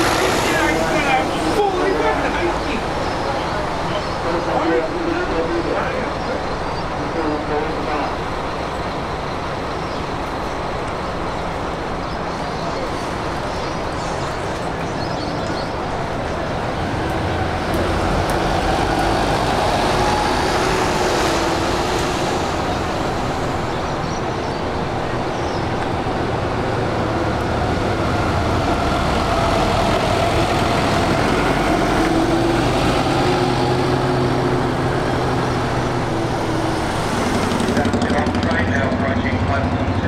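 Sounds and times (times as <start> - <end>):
bus engines rumbling: 0.0 - 40.0.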